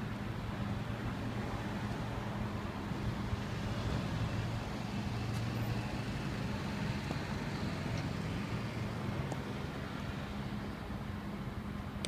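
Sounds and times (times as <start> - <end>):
low engine hum: 0.0 - 12.0
street traffic rumble: 0.0 - 12.0.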